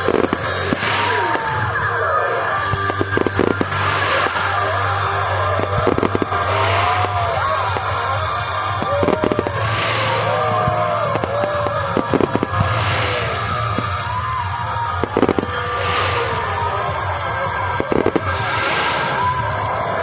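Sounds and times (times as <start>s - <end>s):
fireworks bangs and crackles: 0.0s - 20.0s
fireworks hissing bursts: 0.0s - 20.0s
fireworks whistling: 0.0s - 20.0s.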